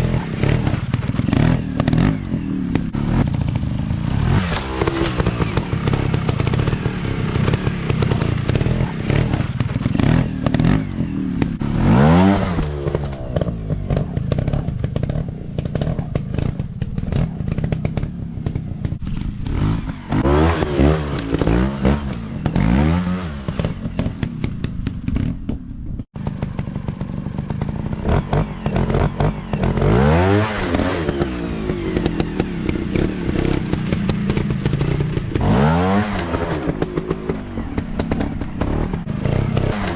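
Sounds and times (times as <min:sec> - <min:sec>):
dirt bike engines revving: 0:00.0 - 0:25.2, 0:26.2 - 0:39.9.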